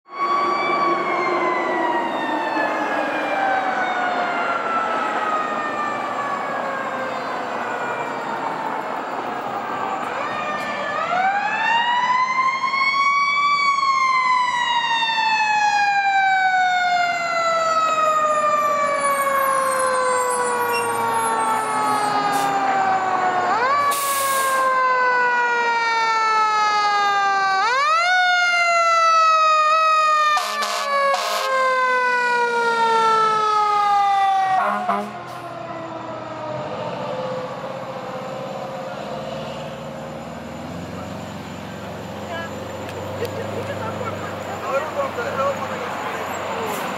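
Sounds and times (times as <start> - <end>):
mechanical siren wailing: 0.1 - 46.9.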